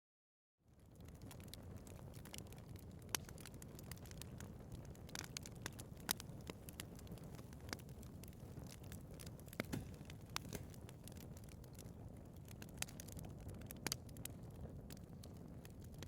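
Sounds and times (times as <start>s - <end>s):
wood fire crackling: 0.7s - 16.0s.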